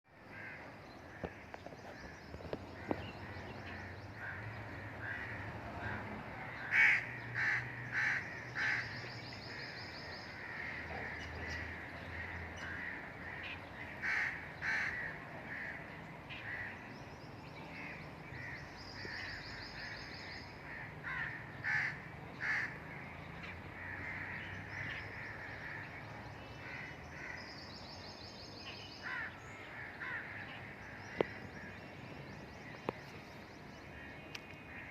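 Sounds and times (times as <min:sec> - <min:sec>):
birds chirping and trilling: 0:00.1 - 0:34.9.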